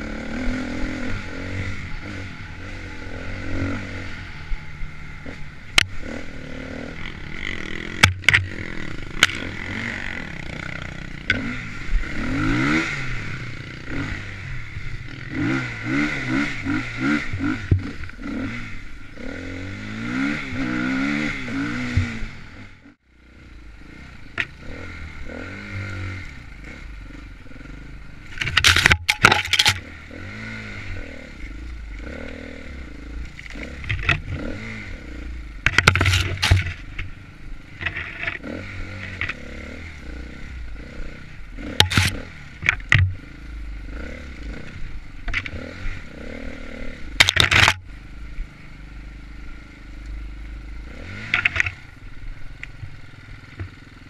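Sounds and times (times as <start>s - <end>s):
dirt bike engine revving: 0.0s - 52.4s.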